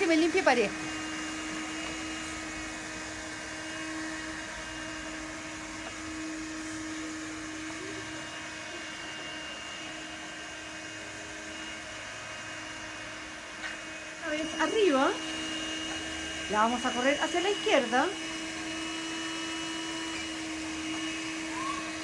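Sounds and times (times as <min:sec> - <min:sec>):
window-cleaning robot whirring: 0:00.0 - 0:22.0.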